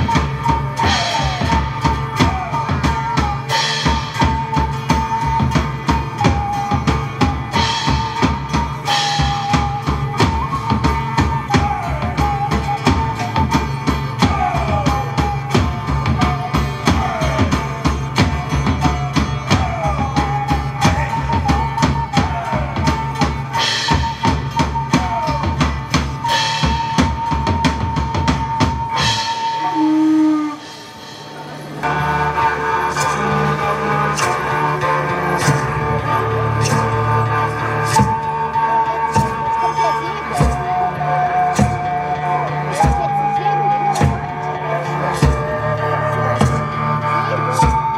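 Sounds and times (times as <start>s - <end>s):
drum kit beat: 0.0s - 47.9s
high melody on long notes: 0.0s - 47.9s.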